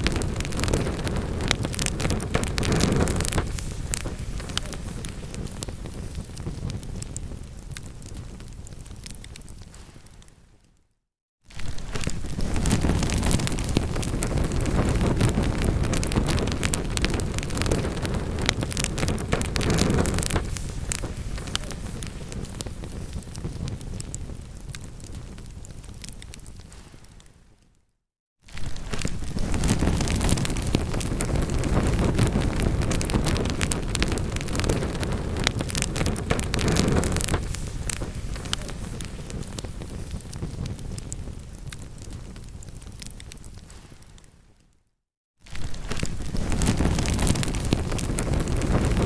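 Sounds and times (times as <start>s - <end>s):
low rumble of flames: 0.0s - 10.8s, 11.5s - 27.6s, 28.5s - 44.6s, 45.5s - 49.0s
wood fire crackling and popping: 0.0s - 10.8s, 11.5s - 27.7s, 28.5s - 44.7s, 45.5s - 49.0s.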